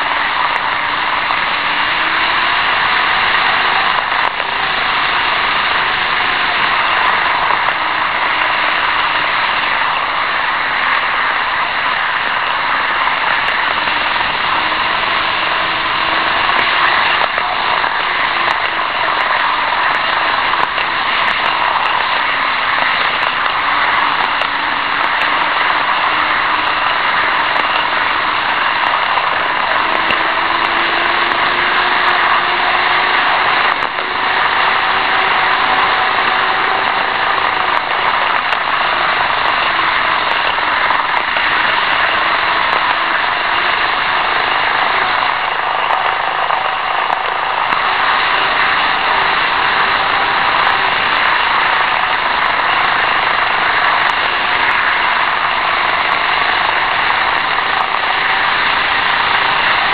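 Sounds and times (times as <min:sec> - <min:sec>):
model trains whirring: 0:00.0 - 0:59.9.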